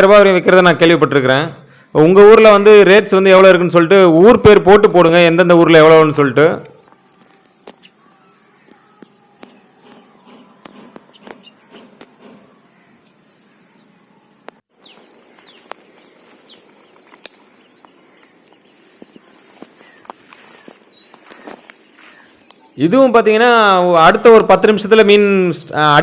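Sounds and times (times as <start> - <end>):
bird chirps: 0.0 - 2.2, 6.7 - 26.0.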